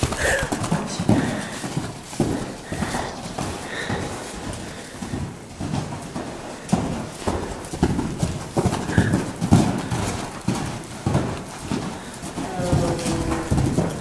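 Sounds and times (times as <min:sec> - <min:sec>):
hoofbeats on soft sand: 0:00.0 - 0:14.0.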